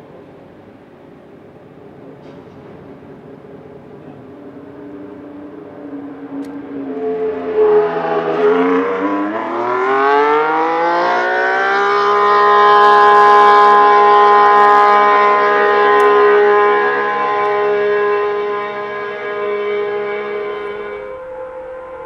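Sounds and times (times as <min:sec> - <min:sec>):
racing car engine: 0:02.4 - 0:22.0.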